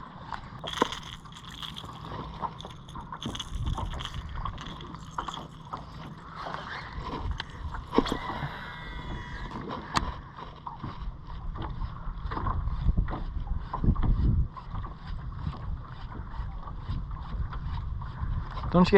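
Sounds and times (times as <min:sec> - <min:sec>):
wind rumbling on microphone: 0:00.0 - 0:18.9.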